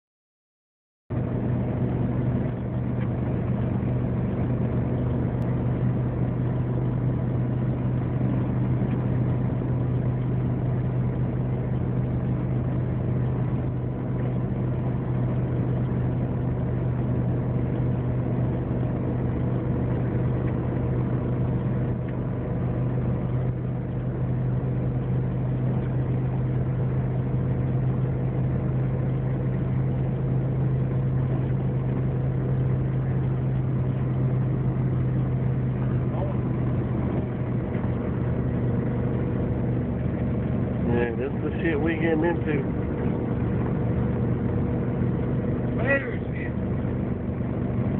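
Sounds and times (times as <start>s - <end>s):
car road and engine noise: 1.1s - 47.9s.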